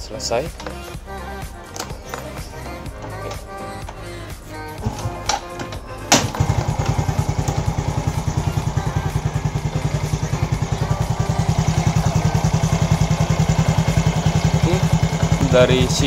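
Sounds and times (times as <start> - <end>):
motorcycle engine idling: 0.5 - 16.0.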